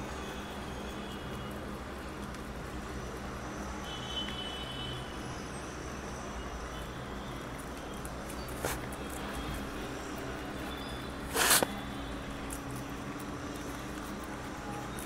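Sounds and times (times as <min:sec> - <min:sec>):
rabbits chewing greens: 0:00.0 - 0:03.9, 0:05.1 - 0:15.0.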